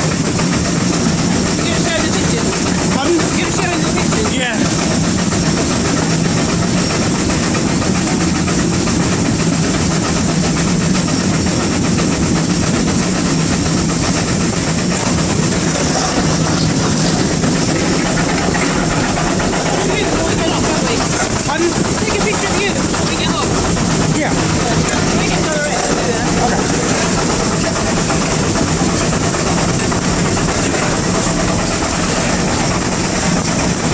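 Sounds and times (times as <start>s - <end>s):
steam locomotive running: 0.0s - 33.9s.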